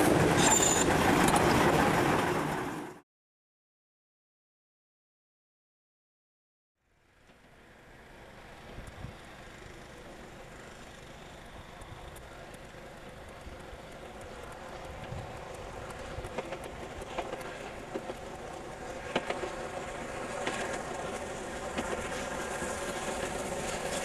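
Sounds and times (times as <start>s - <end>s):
train approaching: 0.0s - 3.0s, 6.8s - 24.0s.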